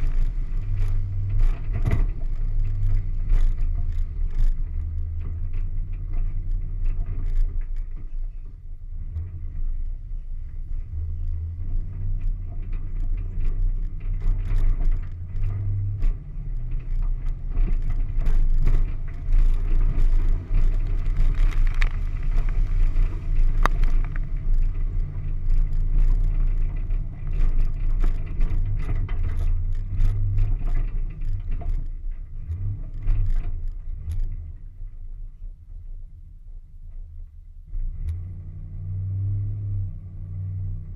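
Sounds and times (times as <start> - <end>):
mud and debris striking vehicle: 0.0 - 35.8
off-road vehicle engine rumble: 0.0 - 40.9.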